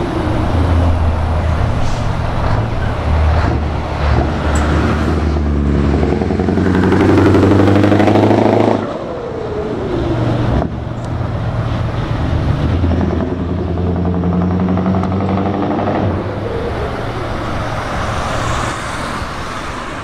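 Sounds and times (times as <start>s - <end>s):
diesel truck engine accelerating: 0.0s - 20.0s.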